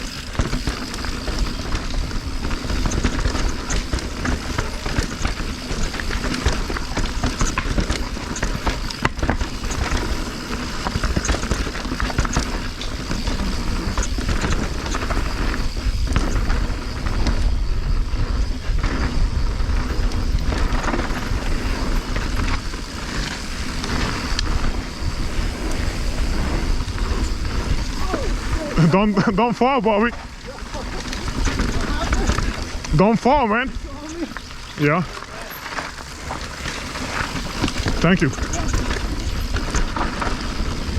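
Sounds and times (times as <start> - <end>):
wind buffeting microphone: 0.0 - 35.1, 35.9 - 40.9
bike rattling: 0.0 - 40.9
tyres running over rock: 0.0 - 40.9.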